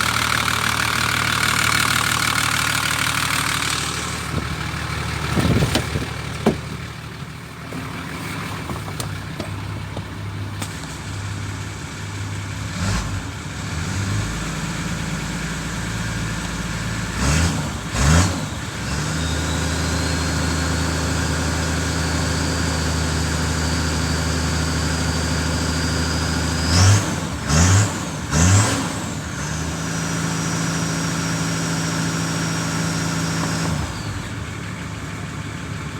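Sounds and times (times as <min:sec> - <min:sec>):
diesel engine idling and revving: 0:00.0 - 0:35.9.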